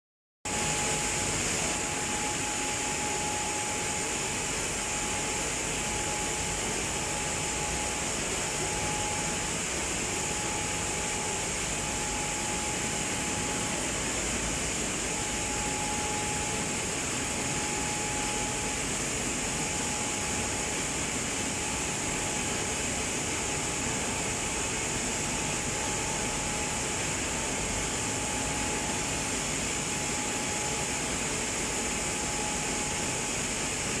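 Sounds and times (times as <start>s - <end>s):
thin whine: 0.5s - 34.0s.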